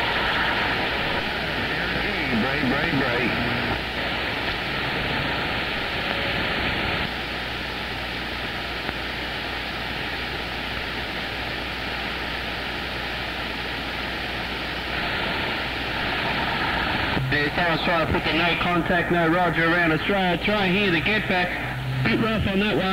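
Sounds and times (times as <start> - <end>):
radio receiver hiss: 0.0 - 22.9.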